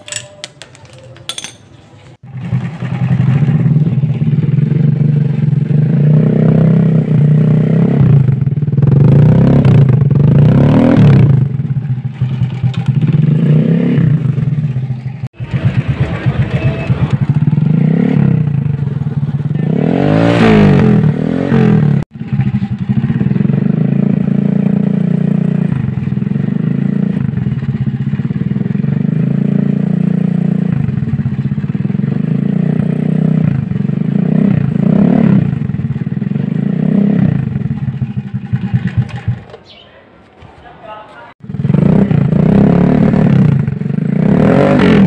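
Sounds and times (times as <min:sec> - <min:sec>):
motorcycle engine revving and idling: 0:00.1 - 0:39.7, 0:41.4 - 0:45.0.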